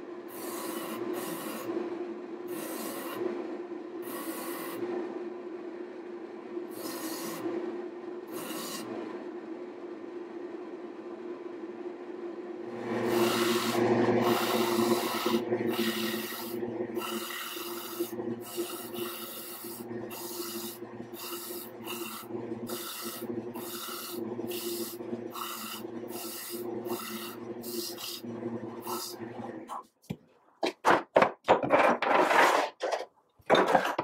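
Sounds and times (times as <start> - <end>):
motor humming: 0.0 - 29.8.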